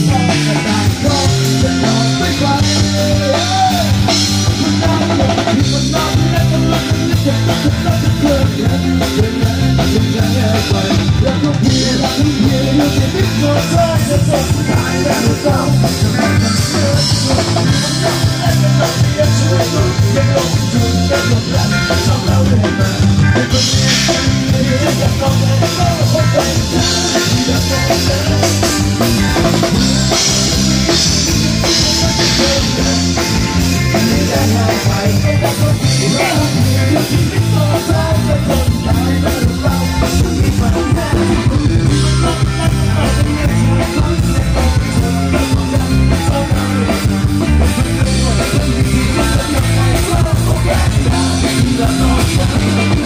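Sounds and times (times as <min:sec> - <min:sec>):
drum kit beat: 0:00.0 - 0:53.0
electric guitars: 0:00.0 - 0:53.0
man singing into a microphone: 0:00.0 - 0:53.0.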